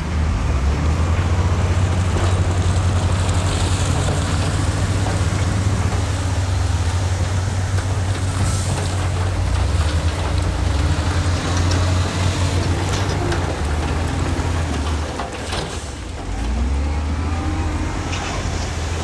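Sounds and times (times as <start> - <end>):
heavy diesel engine under load: 0.0 - 19.0.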